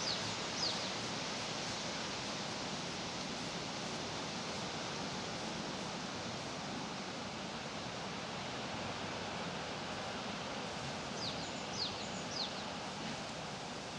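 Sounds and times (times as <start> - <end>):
outdoor background hiss: 0.0 - 13.9.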